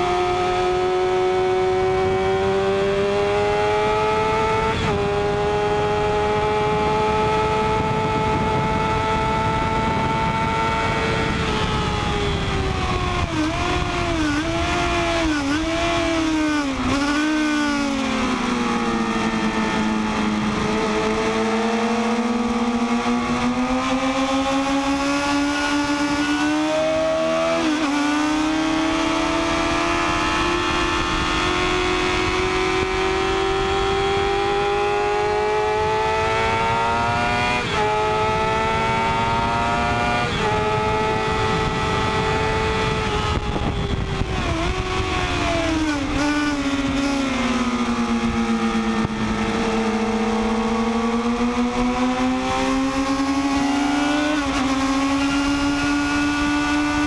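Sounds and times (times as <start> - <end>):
motorcycle engine revving: 0.0 - 57.0
wind rushing past microphone: 0.0 - 57.0.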